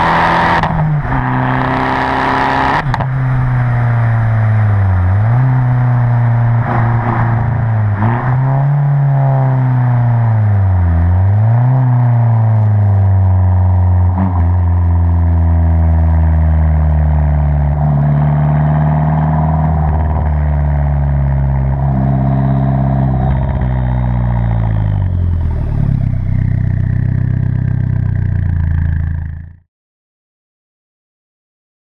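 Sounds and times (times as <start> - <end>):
car engine revving: 0.0 - 29.5.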